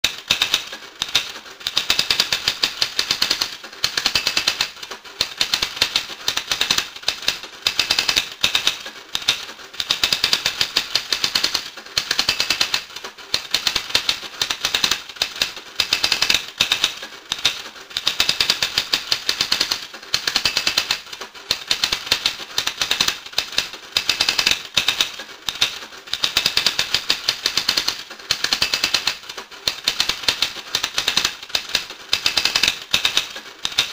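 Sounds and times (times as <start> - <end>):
rapid clicking and clattering: 0.0 - 33.9.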